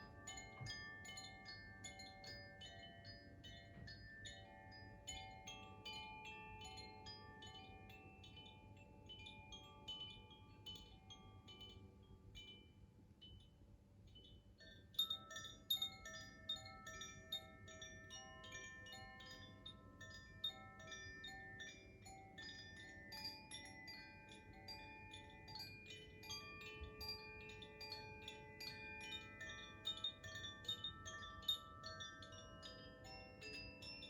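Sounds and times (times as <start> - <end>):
metallic chimes ringing: 0.0 - 12.6, 15.0 - 34.0.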